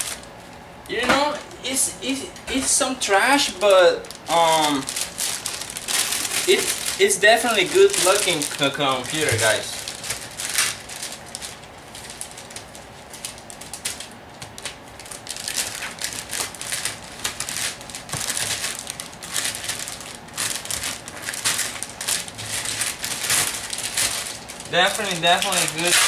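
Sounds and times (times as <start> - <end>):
plastic wrapping crinkling: 0.0 - 1.0, 2.7 - 26.0.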